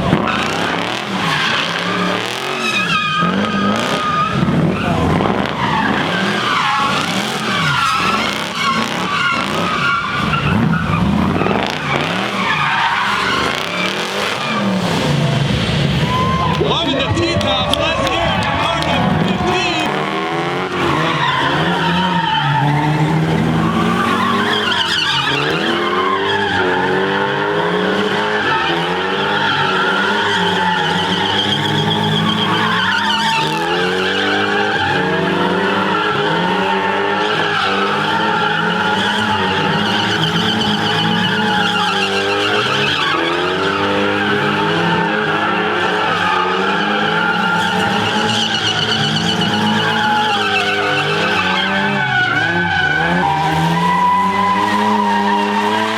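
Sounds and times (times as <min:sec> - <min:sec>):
tyres squealing: 0:00.0 - 0:15.3, 0:16.0 - 0:55.9
engine revving: 0:00.0 - 0:16.1, 0:16.9 - 0:55.9.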